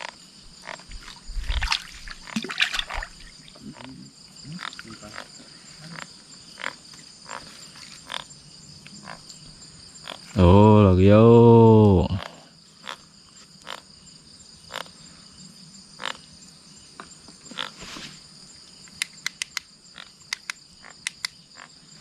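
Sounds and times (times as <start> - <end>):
frogs clicking and croaking: 0.0 - 22.0
night insects chirring: 0.0 - 22.0.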